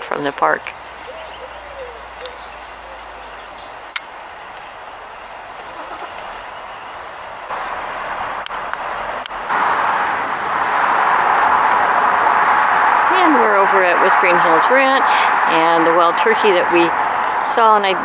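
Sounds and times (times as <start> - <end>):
steady rushing background noise: 1.8 - 18.0.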